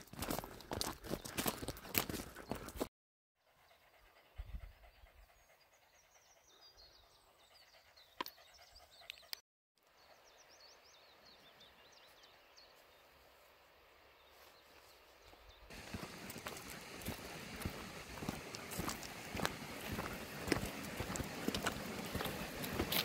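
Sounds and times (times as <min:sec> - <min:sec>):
songbird chirping: 0:03.6 - 0:23.0.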